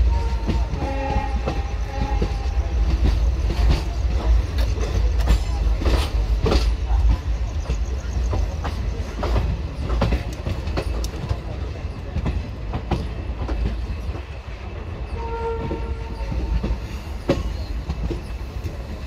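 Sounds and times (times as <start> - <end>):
train rumbling: 0.0 - 19.0
wheels clicking over rail joints: 0.0 - 19.0.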